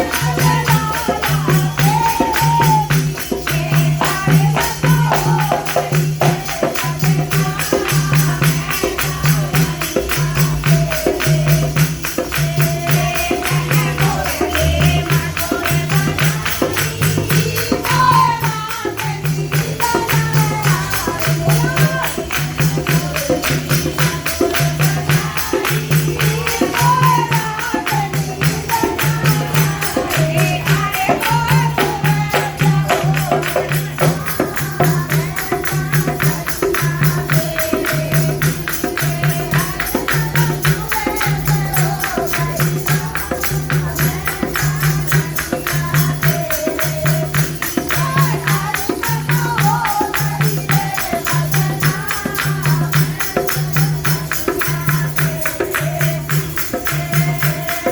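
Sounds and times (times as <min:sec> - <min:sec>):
tambourine-like jingling: 0:00.0 - 0:57.9.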